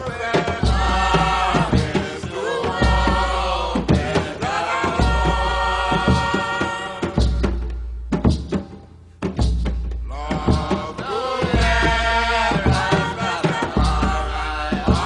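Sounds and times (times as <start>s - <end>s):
voices chanting: 0.0s - 7.5s, 10.1s - 15.0s
drum beat: 0.0s - 15.0s.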